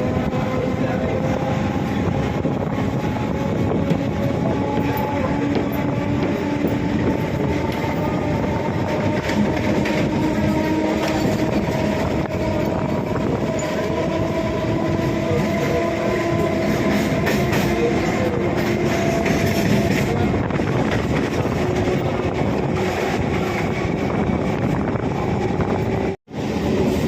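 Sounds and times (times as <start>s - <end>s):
train rumbling and rattling: 0.0s - 27.0s.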